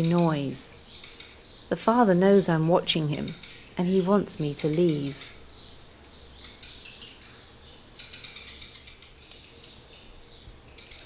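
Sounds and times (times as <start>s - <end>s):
songbird alarm chirps: 0.0s - 11.0s.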